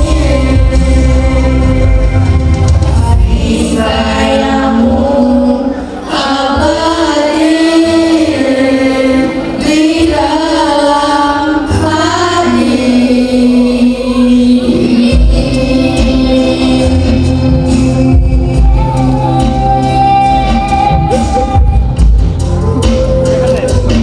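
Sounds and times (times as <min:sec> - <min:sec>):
children singing: 0:00.0 - 0:21.9
musical backing track: 0:00.0 - 0:24.0.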